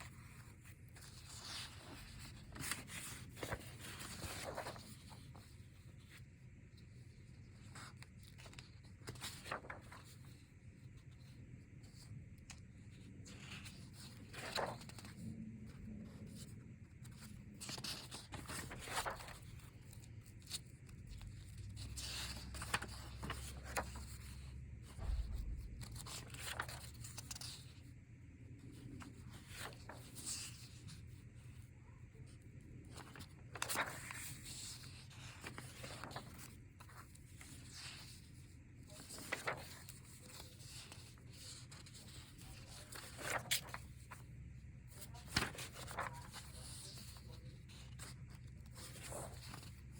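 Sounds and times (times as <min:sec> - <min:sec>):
paper rustling and sliding: 0:00.0 - 0:06.2, 0:07.3 - 0:27.9, 0:28.6 - 0:31.6, 0:32.2 - 0:44.3, 0:44.9 - 0:49.9
low room hum: 0:00.0 - 0:49.9.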